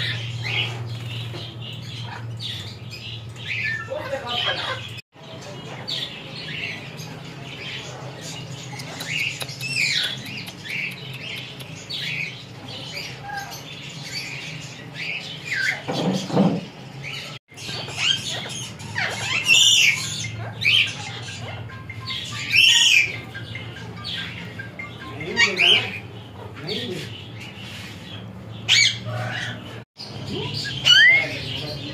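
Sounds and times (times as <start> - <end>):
parrots squawking: 0.0 - 5.0, 5.9 - 31.9.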